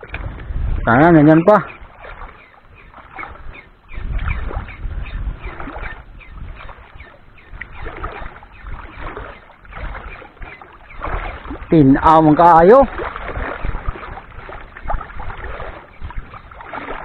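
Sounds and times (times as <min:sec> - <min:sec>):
water lapping and sloshing: 0:00.0 - 0:17.0
wind rumbling on microphone: 0:00.0 - 0:17.0.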